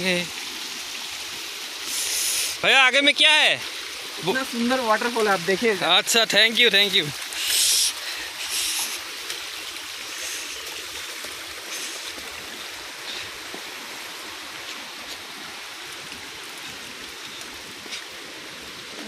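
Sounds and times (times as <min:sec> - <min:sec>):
fast-running stream: 0:00.0 - 0:19.0.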